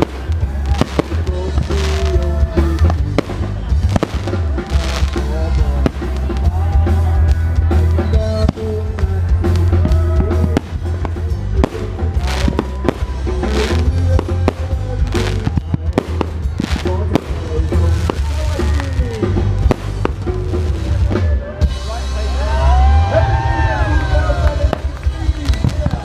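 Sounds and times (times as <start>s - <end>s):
fireworks bursting and crackling: 0.0s - 21.4s, 24.4s - 26.0s
loud music with heavy bass: 0.0s - 26.0s.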